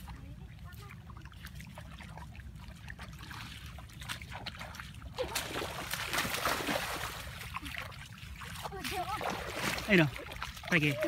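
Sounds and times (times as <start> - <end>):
splashing in shallow muddy water: 0.0 - 11.0.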